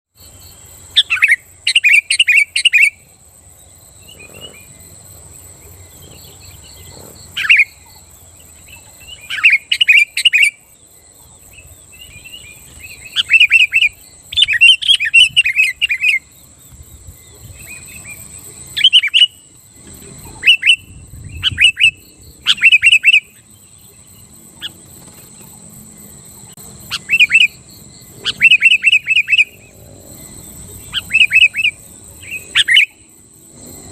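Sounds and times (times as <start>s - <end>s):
bulbul singing: 0.3s - 25.5s, 26.3s - 33.1s.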